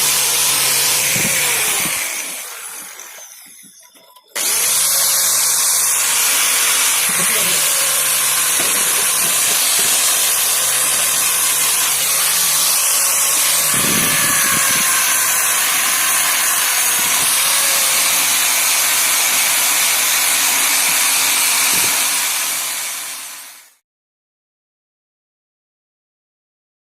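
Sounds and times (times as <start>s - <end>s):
angle grinder polishing metal: 0.0s - 23.6s.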